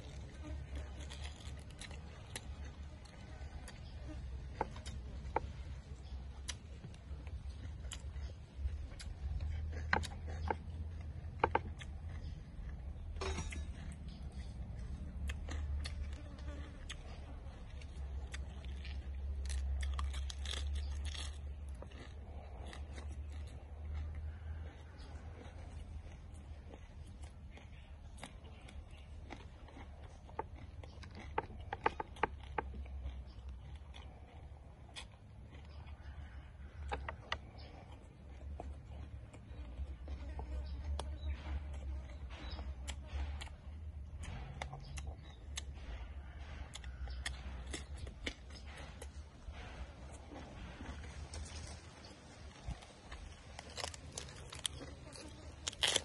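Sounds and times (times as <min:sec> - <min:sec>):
crinkling leaves: 0:00.0 - 0:56.0
man chewing: 0:00.0 - 0:56.0
steady low hum: 0:00.0 - 0:56.0.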